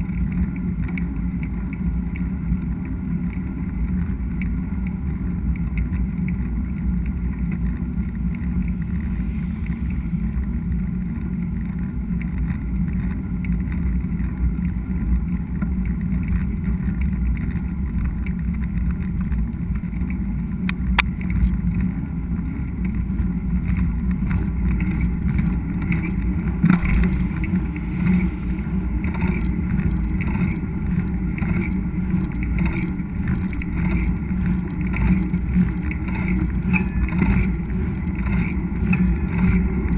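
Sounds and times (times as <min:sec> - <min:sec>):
bike rolling on dirt trail: 0:00.0 - 0:39.9.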